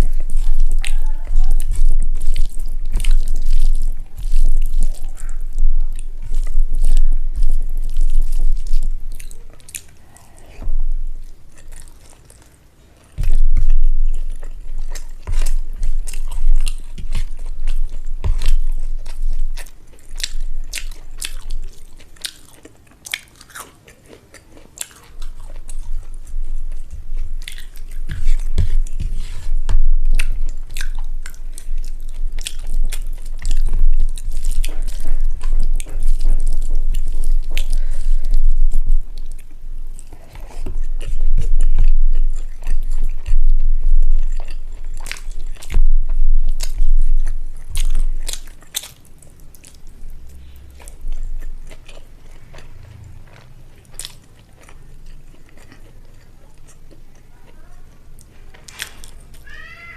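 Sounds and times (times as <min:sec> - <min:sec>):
wet chewing mouth sounds: 0:00.0 - 0:59.8.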